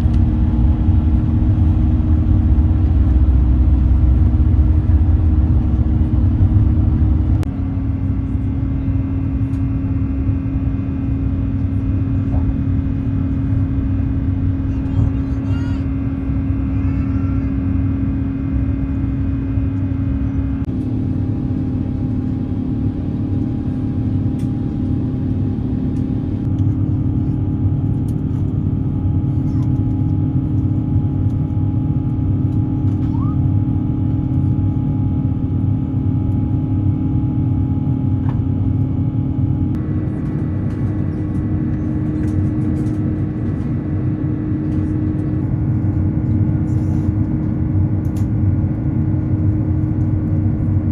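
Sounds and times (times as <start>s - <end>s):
aircraft cabin engine rumble: 0.0s - 50.9s
constant hum: 0.0s - 50.9s.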